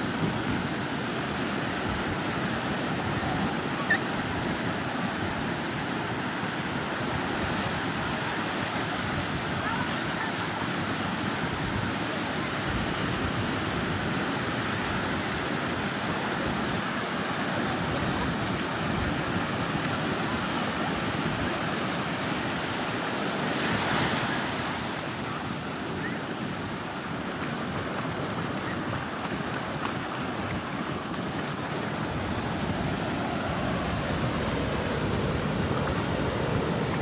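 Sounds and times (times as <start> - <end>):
surf washing onto beach: 0.0 - 37.0.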